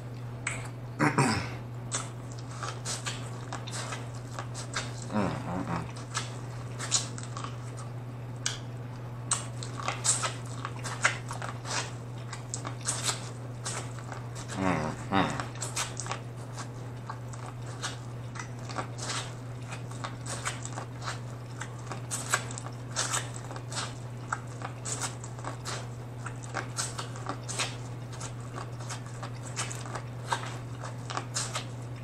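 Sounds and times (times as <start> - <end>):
corn on the cob chewed crunchily: 1.9 - 32.0.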